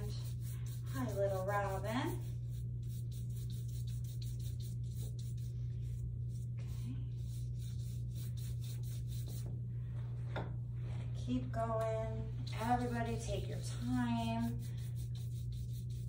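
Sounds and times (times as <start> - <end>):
paintbrush scratching on paper: 0.0 - 9.5, 12.5 - 16.0
steady low hum: 0.0 - 16.0.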